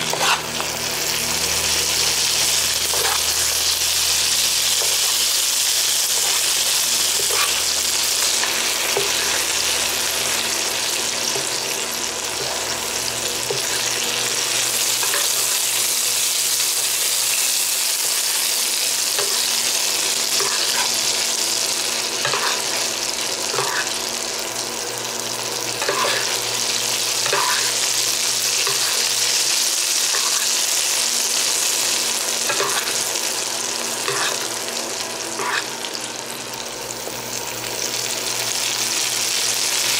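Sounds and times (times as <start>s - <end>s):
meat sizzling in a frying pan: 0.0s - 39.9s.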